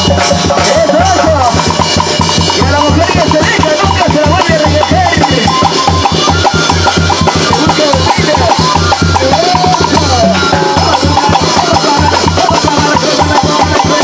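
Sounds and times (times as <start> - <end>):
bass: 0.0 - 14.0
fast percussion beat: 0.0 - 14.0
flute melody: 0.0 - 14.0.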